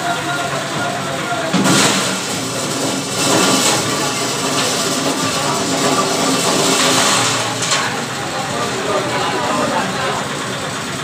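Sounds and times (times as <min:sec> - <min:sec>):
running engines: 0:00.0 - 0:11.0
voices: 0:00.0 - 0:11.0.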